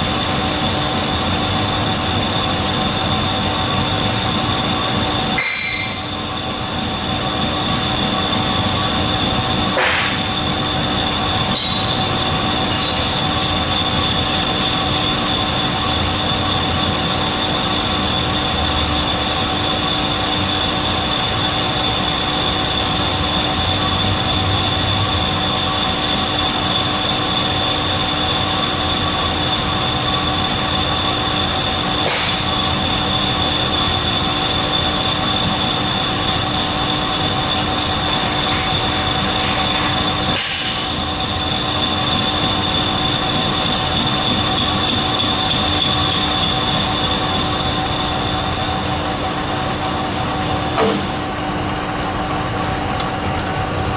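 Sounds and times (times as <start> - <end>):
metal lathe cutting with whine: 0.0 - 53.9.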